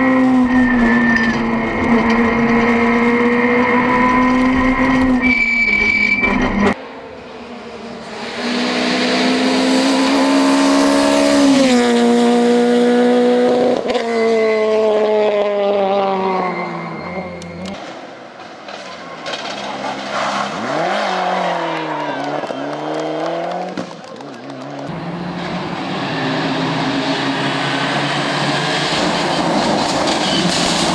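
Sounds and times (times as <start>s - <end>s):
rally car engine revving: 0.0s - 16.4s, 19.3s - 30.9s.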